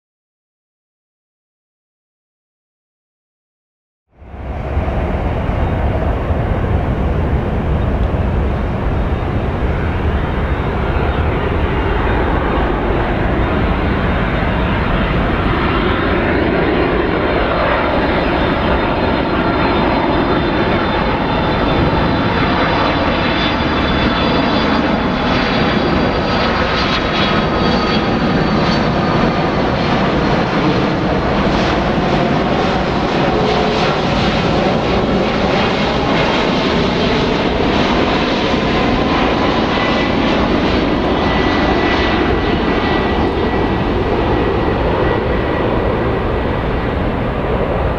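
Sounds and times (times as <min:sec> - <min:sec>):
jet engines running: 0:04.2 - 0:47.9.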